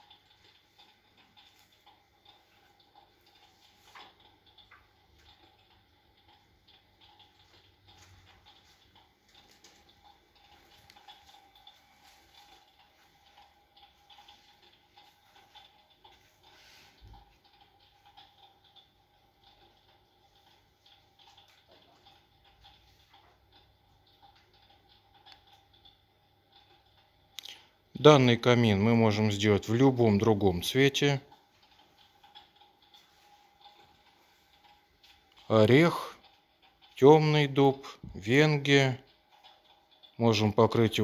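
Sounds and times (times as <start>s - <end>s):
crackling clicks: 0.0s - 27.8s, 29.2s - 41.0s
faint steady hum: 0.0s - 41.0s.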